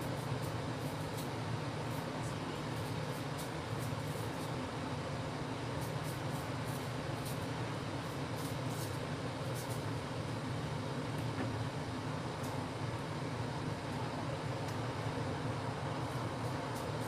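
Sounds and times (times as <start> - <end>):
low mechanical motor hum: 0.0 - 17.0.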